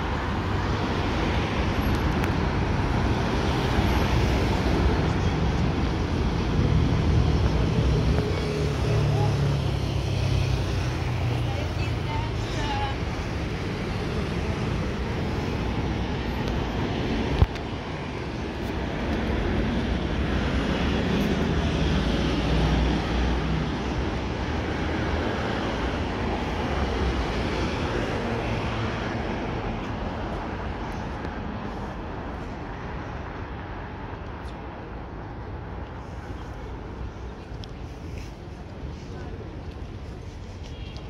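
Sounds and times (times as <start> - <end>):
street traffic rumble: 0.0 - 41.0.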